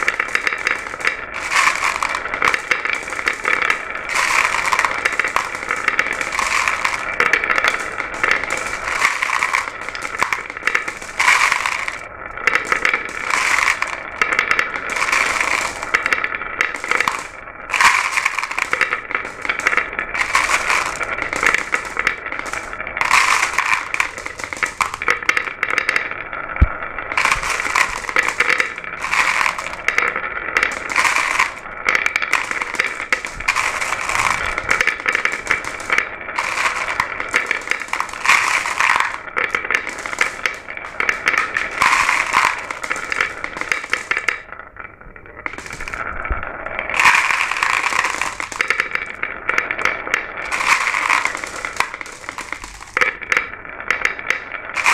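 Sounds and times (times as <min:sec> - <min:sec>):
marbles clacking down a track: 0:00.0 - 0:54.9.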